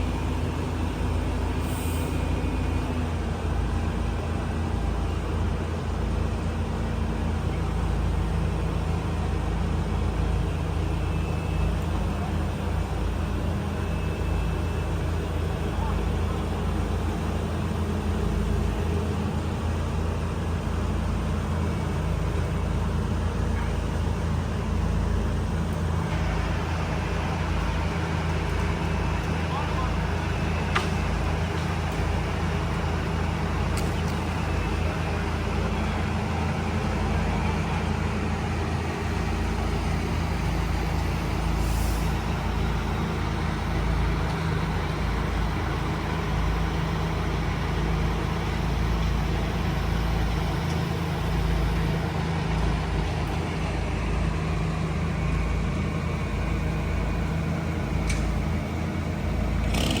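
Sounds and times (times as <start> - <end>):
diesel engine droning: 0.0 - 60.0.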